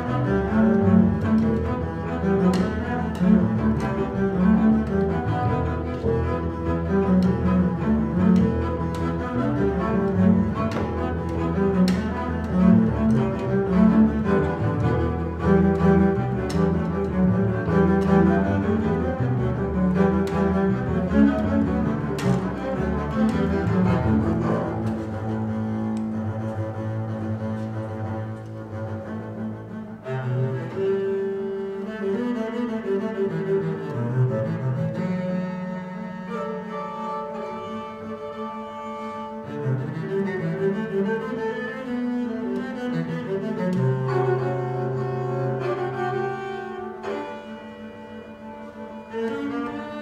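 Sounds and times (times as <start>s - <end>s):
bowed double basses: 0.0s - 50.0s.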